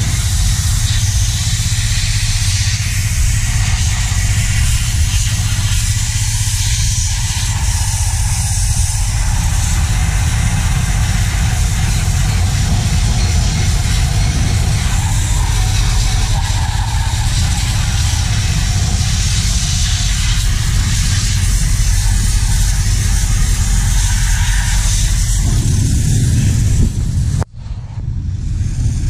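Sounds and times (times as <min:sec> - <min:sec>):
water jet spraying hiss: 0:00.0 - 0:27.4
pressure washer motor drone: 0:00.0 - 0:27.5.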